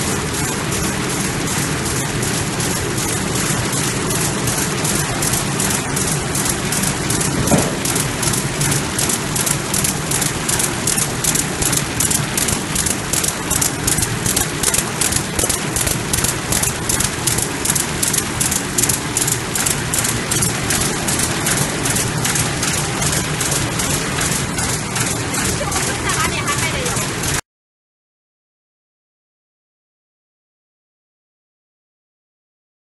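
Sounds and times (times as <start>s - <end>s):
machine clattering and hissing: 0.0s - 27.4s.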